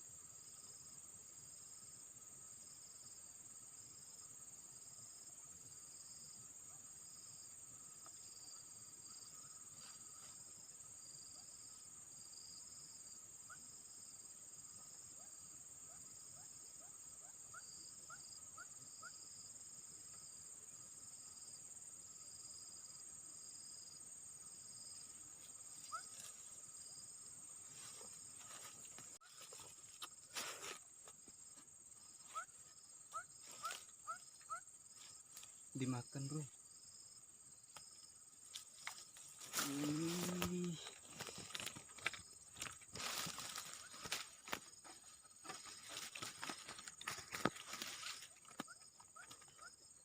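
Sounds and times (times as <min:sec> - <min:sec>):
insect chirping: 0:00.0 - 0:50.0
insects buzzing: 0:00.0 - 0:50.0.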